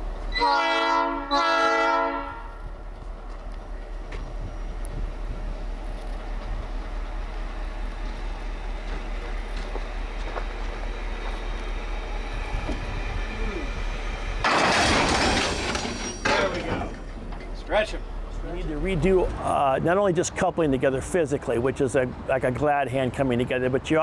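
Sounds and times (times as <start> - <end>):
diesel locomotive running: 0.0 - 24.0.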